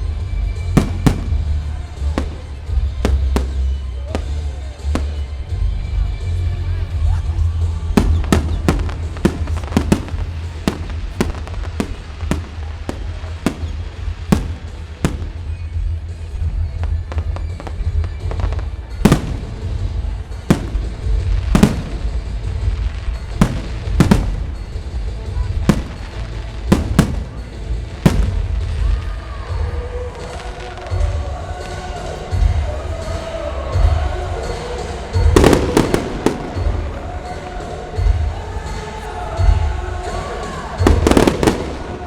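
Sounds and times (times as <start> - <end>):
fireworks bangs: 0.0 - 42.0.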